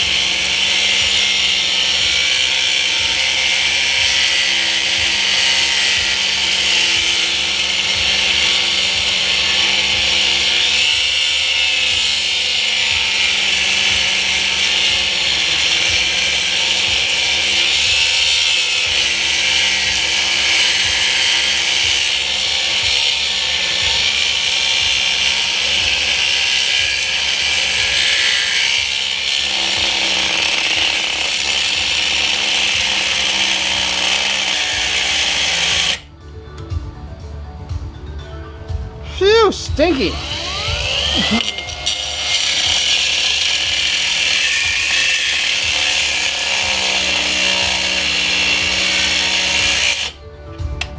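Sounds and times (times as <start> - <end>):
cutting tool cutting metal: 0.0 - 36.1, 39.9 - 50.2.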